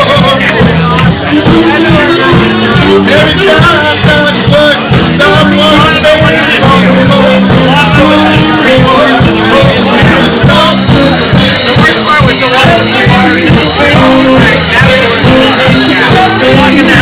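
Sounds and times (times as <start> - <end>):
keyboard: 0.0 - 17.0
saxophone melody: 0.0 - 17.0
steady rhythmic bass line: 0.0 - 17.0.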